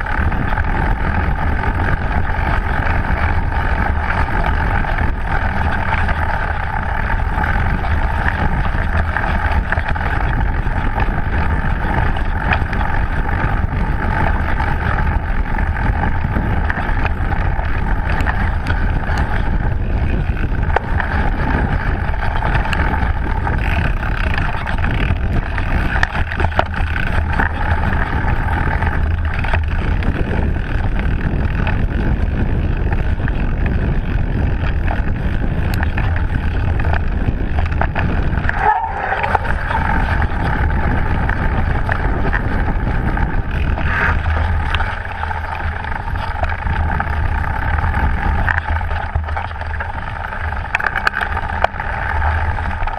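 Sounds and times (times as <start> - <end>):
bike rattling over bumps: 0.0 - 52.9
bike tyres on dirt: 0.0 - 52.9
wind rush on microphone: 0.0 - 52.9.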